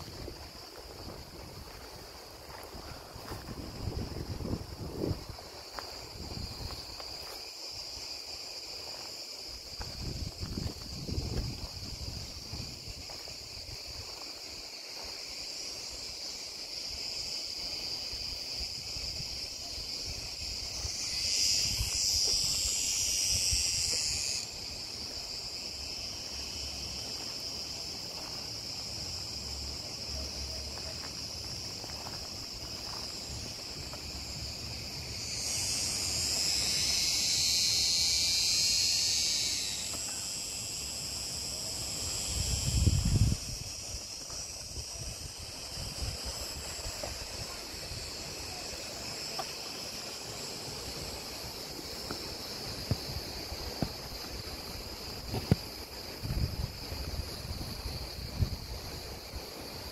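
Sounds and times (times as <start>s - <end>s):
cicadas buzzing: 0.0s - 59.9s.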